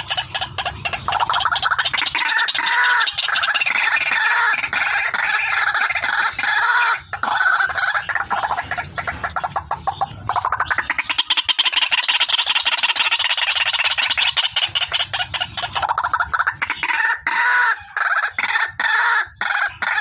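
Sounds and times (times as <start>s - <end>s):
waterhen calling harsh notes: 0.0s - 20.0s.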